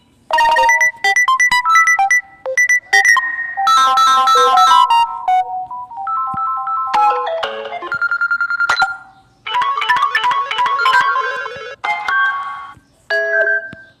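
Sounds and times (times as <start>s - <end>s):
tablet notification tones: 0.3s - 12.5s.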